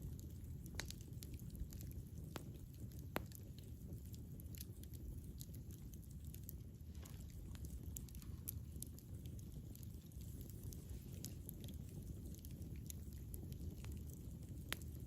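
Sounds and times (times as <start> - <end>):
burning wood crackling and popping: 0.0 - 15.0
campfire rumble: 0.0 - 15.0.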